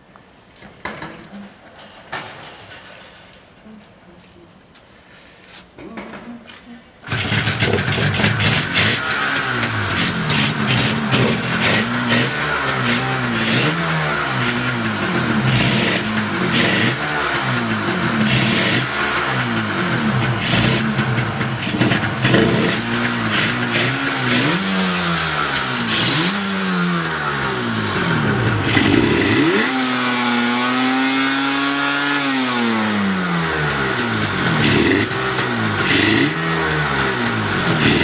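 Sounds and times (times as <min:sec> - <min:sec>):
two-stroke engine revving: 0:07.0 - 0:38.0.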